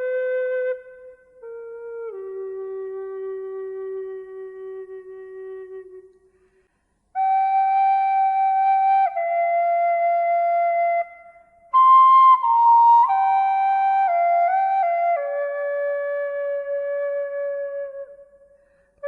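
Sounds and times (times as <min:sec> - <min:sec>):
slow flute melody: 0:00.0 - 0:19.0.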